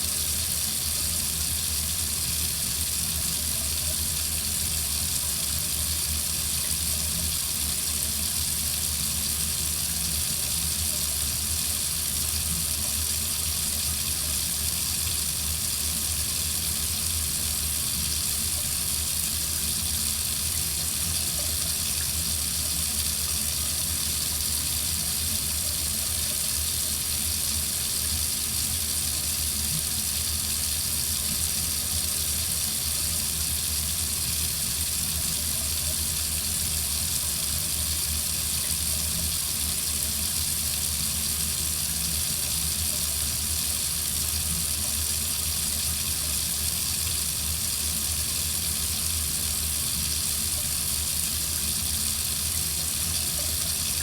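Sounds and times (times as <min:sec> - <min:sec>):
water running from faucet: 0:00.0 - 0:54.0.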